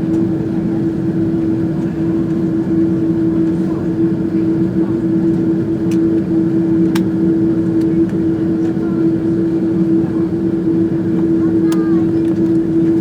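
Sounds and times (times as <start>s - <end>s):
aircraft cabin engine hum: 0.0s - 13.0s.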